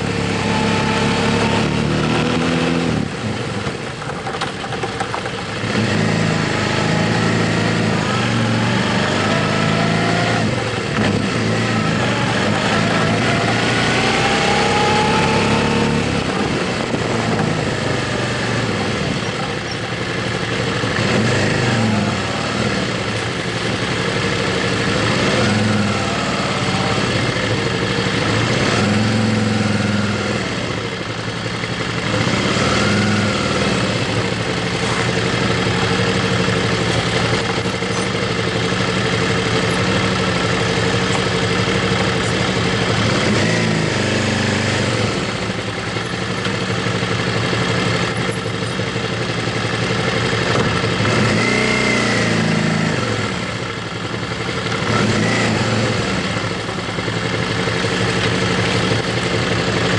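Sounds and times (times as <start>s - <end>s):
motorcycle engine revving through gears: 0.0s - 59.9s.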